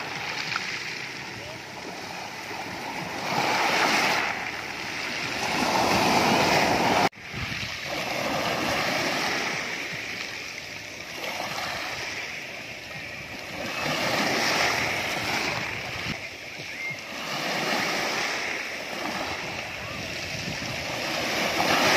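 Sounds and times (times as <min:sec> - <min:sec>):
waves breaking on pebble beach: 0:00.0 - 0:21.9.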